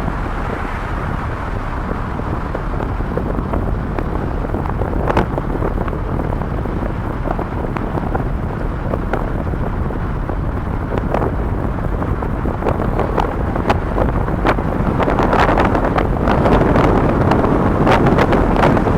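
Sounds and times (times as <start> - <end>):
strong wind buffeting microphone: 0.0 - 18.9.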